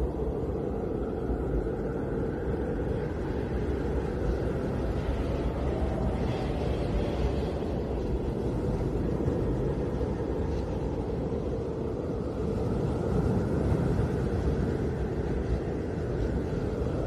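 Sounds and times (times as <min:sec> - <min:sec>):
snowstorm wind roaring: 0:00.0 - 0:17.0.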